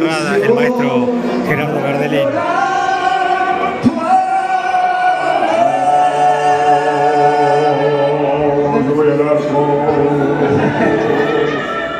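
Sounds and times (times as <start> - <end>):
male voices singing together: 0.0 - 11.9.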